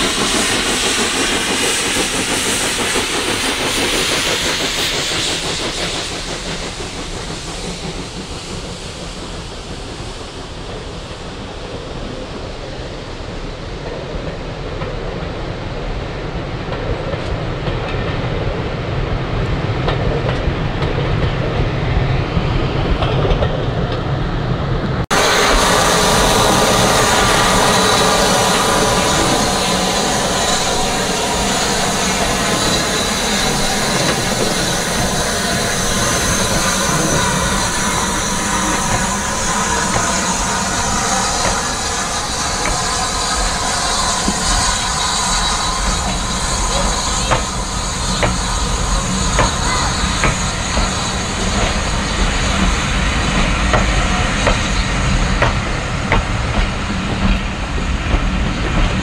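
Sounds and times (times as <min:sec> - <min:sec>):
steam hissing from locomotive: 0:00.0 - 0:23.4, 0:24.2 - 0:59.0
steam locomotive exhaust: 0:00.0 - 0:59.0.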